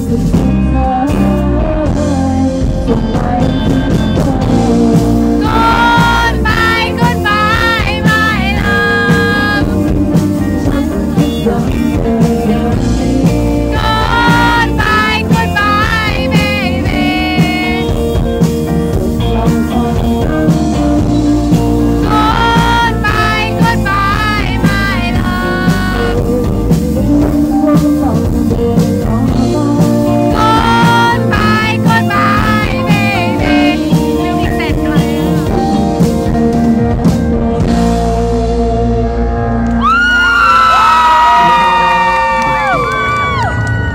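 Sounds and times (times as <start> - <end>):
person singing: 0.0 - 43.0
band playing slow rock: 0.0 - 43.9
drum kit: 0.0 - 43.9
electric bass: 0.0 - 43.9.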